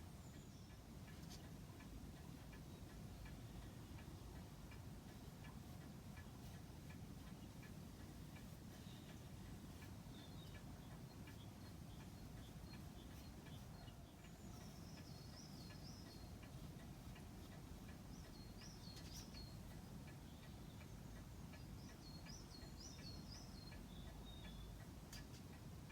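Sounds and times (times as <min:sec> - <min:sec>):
clock ticking faintly: 0:00.0 - 0:25.9
low steady hum: 0:00.0 - 0:25.9.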